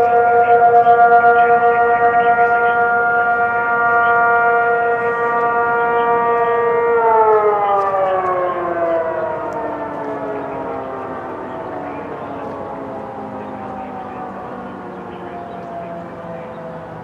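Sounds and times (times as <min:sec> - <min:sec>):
tornado warning sirens: 0:00.0 - 0:17.0.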